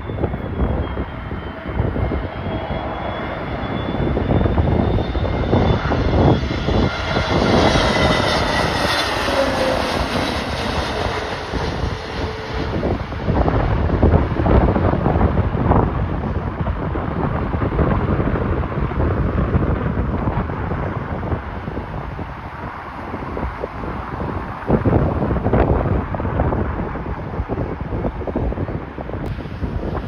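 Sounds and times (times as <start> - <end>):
jet airliner passing: 0.0 - 30.0
wind buffeting microphone: 0.0 - 30.0.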